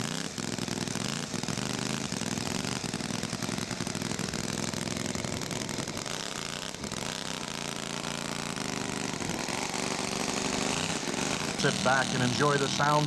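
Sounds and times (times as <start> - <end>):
model aircraft engines buzzing: 0.0 - 13.0.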